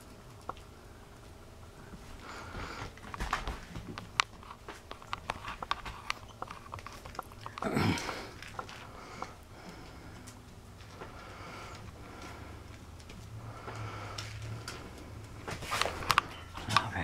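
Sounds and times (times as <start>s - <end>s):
small pets scuffling: 1.9s - 17.0s.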